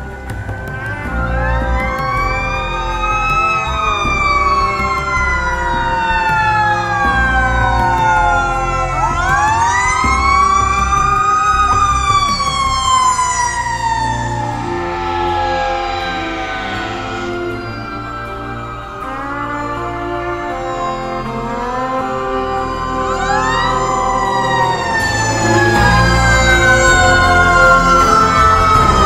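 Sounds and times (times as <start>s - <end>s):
fire truck sirens wailing: 0.0s - 29.0s
low rumble of trucks: 0.0s - 29.0s.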